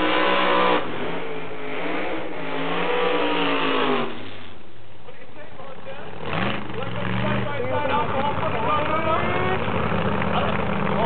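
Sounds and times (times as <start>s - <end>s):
race car engine revving: 0.0s - 4.6s, 6.1s - 11.0s.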